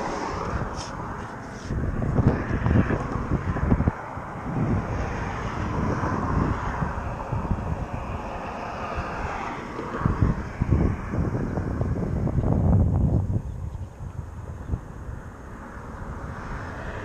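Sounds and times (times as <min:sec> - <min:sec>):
passing engine drone: 0:00.0 - 0:13.0, 0:14.2 - 0:17.0
wind buffeting microphone: 0:00.0 - 0:17.0.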